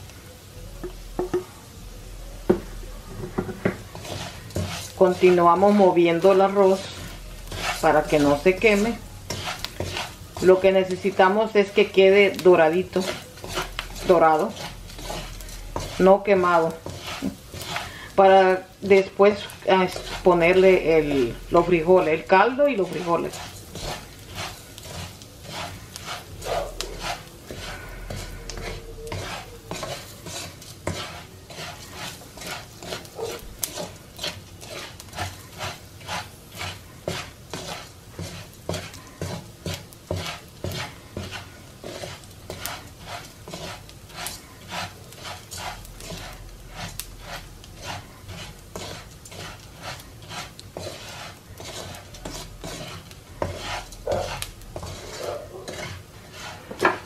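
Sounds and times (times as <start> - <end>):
oil sizzling: 0.0 - 57.0
plastic spoon scraping rice: 3.6 - 57.0.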